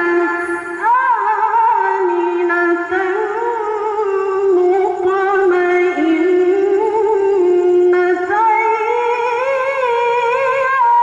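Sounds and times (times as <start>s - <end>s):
woman reciting melodically: 0.0s - 11.0s.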